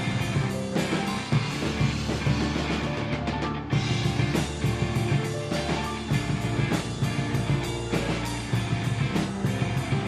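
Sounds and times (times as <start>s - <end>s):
drum kit beat: 0.0s - 10.0s
electric guitar: 0.0s - 10.0s
rock band playing: 0.0s - 10.0s.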